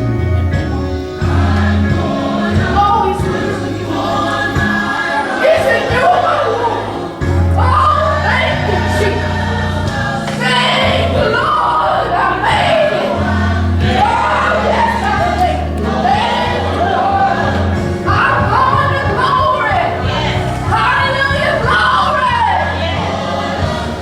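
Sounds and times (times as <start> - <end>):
gospel choir singing: 0.0 - 24.0
sustained bass notes: 0.0 - 24.0.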